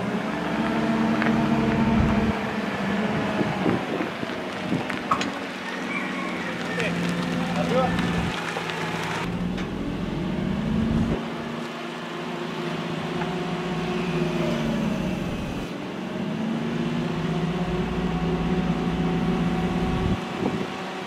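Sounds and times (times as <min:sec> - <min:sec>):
forklift engine revving: 0:00.0 - 0:05.6, 0:06.9 - 0:20.8.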